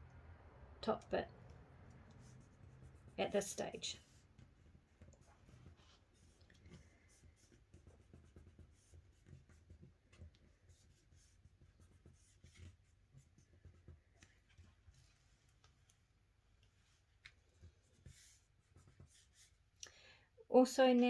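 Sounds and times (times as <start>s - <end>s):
soft paper rustles: 0.9s - 19.8s.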